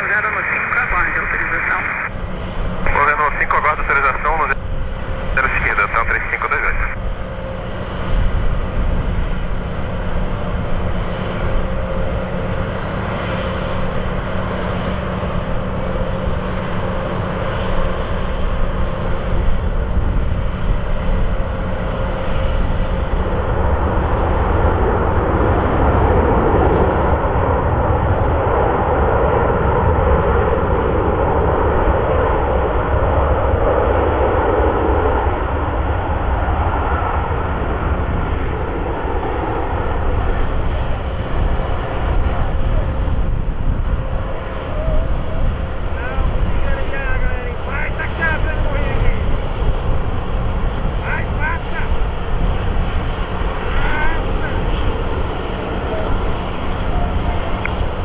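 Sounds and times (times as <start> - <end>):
jet engine rushing noise: 0.0 - 58.0.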